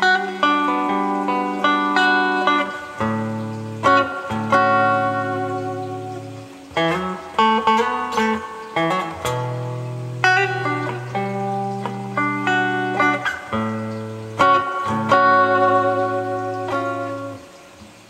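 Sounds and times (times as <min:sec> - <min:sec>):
clean electric guitar: 0:00.0 - 0:18.0.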